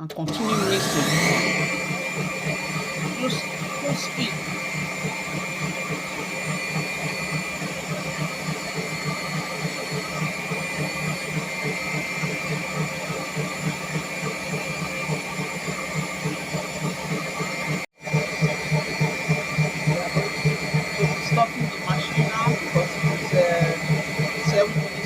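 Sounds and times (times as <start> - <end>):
electric mixer whipping in a bowl: 0.0 - 25.0.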